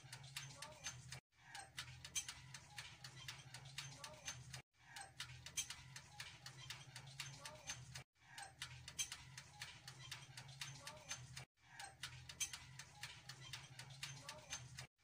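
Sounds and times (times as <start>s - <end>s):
wind-up timer ticking: 0.0s - 15.0s.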